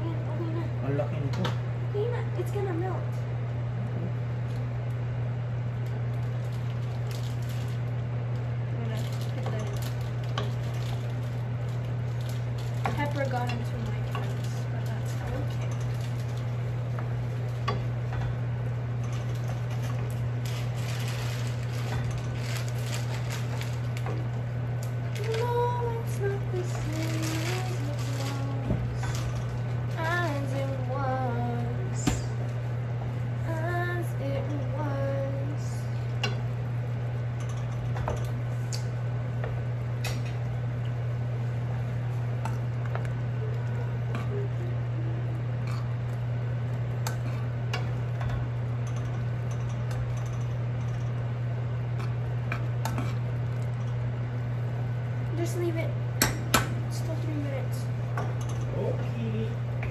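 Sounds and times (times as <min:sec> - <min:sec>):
low hum: 0:00.0 - 0:59.9
pasta boiling in a pot: 0:00.2 - 0:59.9.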